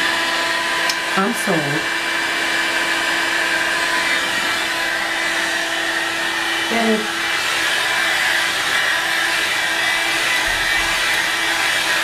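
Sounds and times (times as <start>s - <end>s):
hair dryer blowing air: 0.0s - 12.0s
hair dryer motor hum: 0.0s - 12.0s.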